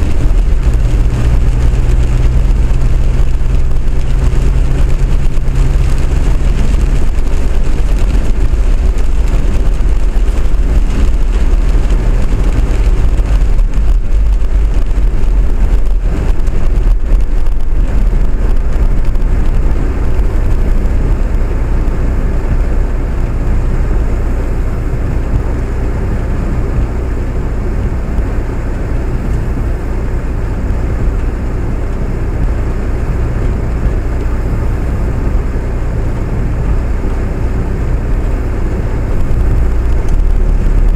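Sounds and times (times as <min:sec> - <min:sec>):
vehicle low rumble: 0:00.0 - 0:40.9.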